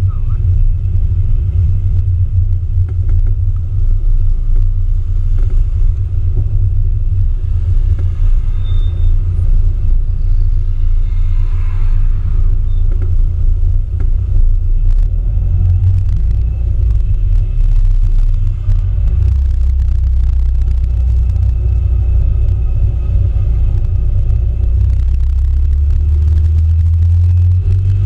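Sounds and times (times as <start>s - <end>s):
car engine low rumble: 0.0s - 28.0s.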